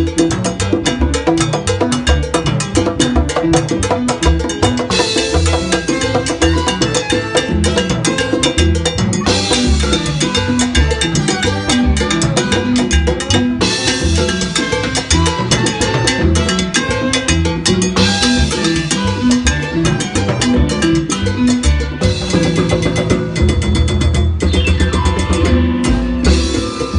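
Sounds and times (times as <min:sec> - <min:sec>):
congas and timbales rhythm: 0:00.0 - 0:26.9
upright bass line: 0:00.0 - 0:26.9.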